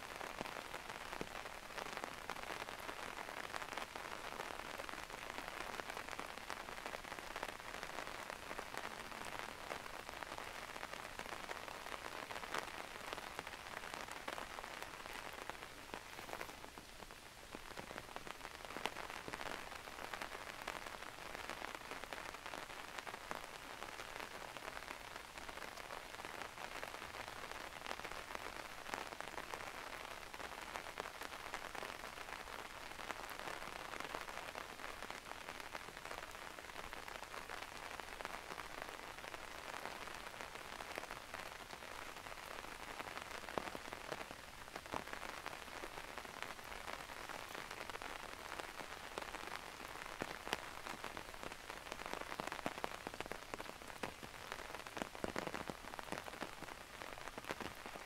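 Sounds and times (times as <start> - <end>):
steady rain hiss: 0.0 - 58.0
raindrops ticking close by: 0.1 - 58.0.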